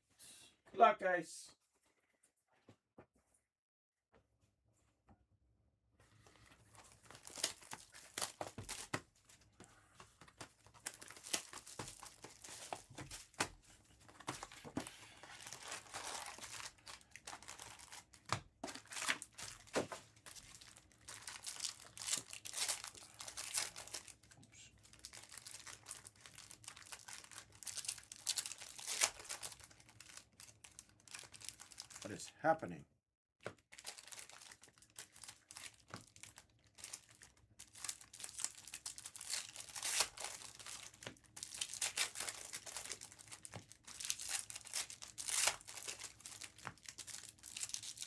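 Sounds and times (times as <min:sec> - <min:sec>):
wrappers tearing and crinkling: 0:06.6 - 0:09.0, 0:10.3 - 0:32.1, 0:33.7 - 0:48.0.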